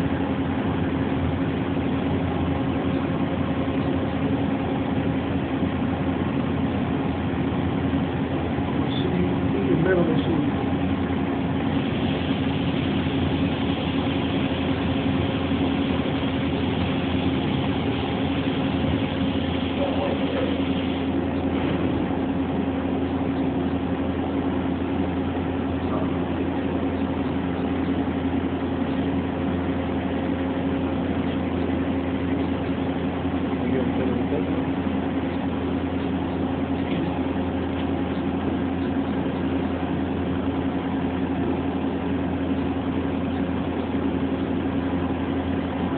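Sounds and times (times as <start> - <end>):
machine humming: 0.0 - 45.9.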